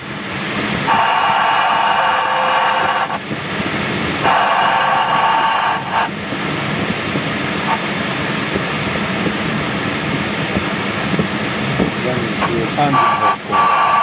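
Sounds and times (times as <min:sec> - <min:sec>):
airflow rush in cockpit: 0:00.0 - 0:14.0.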